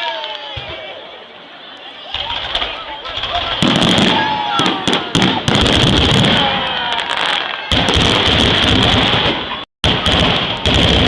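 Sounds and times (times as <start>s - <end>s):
fireworks crackling and popping: 2.1s - 11.0s.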